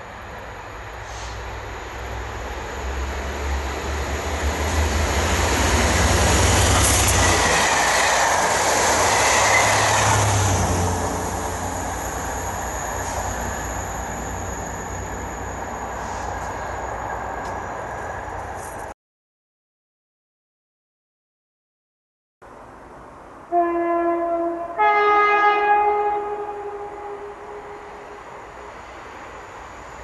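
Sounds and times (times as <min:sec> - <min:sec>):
diesel locomotive engine drone: 0:00.0 - 0:18.9, 0:22.5 - 0:30.0
high whine from train wheels: 0:00.0 - 0:18.9, 0:22.6 - 0:30.0.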